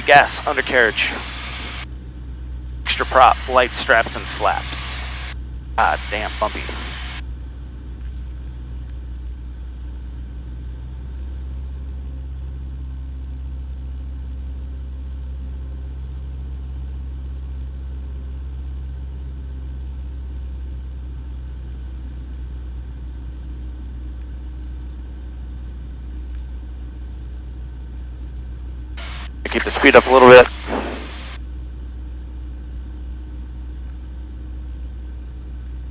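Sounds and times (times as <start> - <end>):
airplane engine and propeller droning: 0.0 - 35.9.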